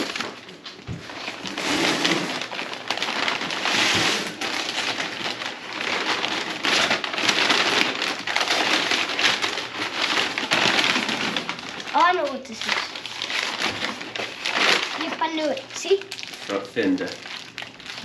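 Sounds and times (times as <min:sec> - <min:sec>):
packing material crinkling: 0:00.0 - 0:18.0.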